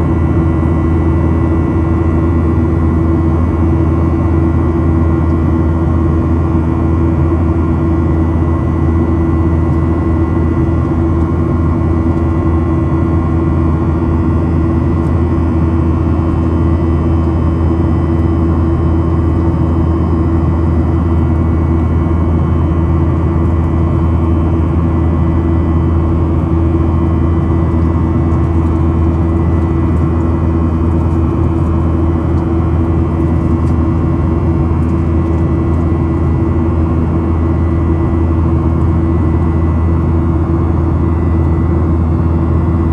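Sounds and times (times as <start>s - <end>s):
jet engines droning: 0.0s - 42.9s.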